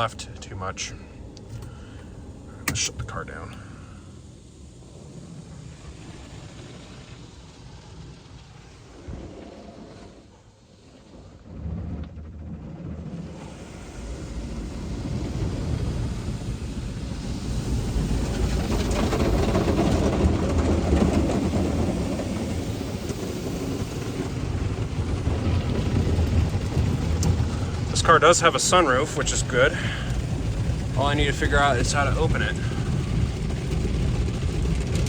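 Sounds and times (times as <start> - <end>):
car wash rumbling and spraying: 0.0 - 35.0.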